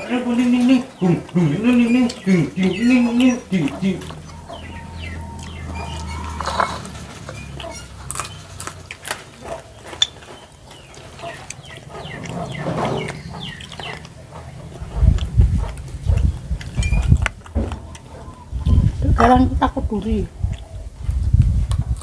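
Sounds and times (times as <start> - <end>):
chickens clucking: 0.0 - 22.0
people eating with hands: 0.0 - 22.0.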